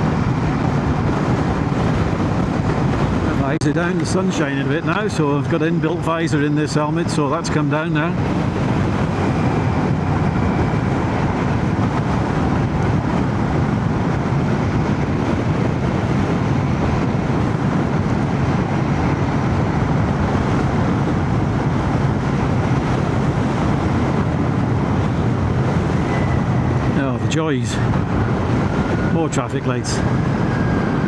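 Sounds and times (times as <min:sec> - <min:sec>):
road noise: 0:00.0 - 0:31.0
wind noise: 0:00.0 - 0:31.0.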